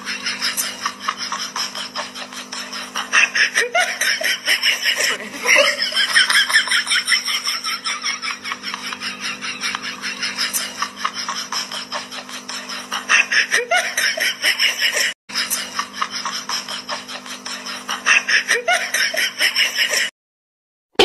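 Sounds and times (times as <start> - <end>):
people laughing: 0.0 - 20.1.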